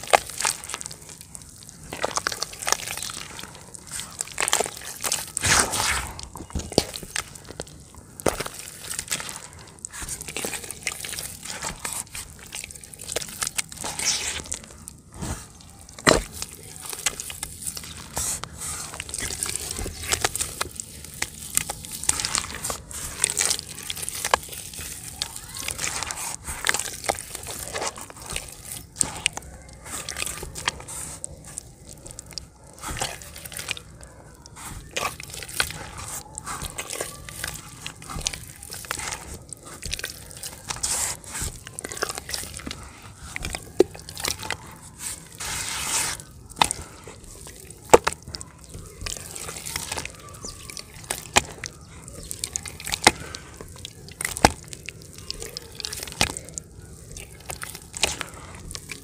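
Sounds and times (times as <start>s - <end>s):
wet mud squelching and sloshing: 0.0s - 59.0s.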